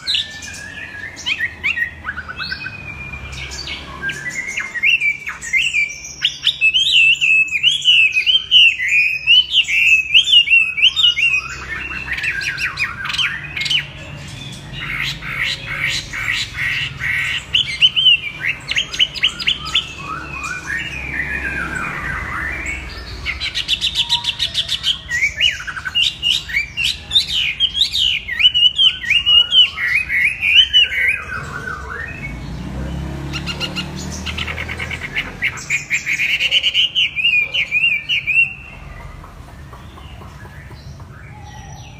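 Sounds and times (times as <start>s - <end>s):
bird singing warbling song: 0.0s - 41.9s.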